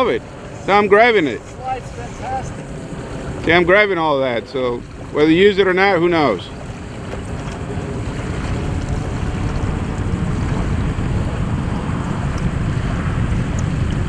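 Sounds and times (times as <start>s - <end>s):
small waves lapping: 0.0s - 14.0s
wind rumble on microphone: 0.0s - 14.0s.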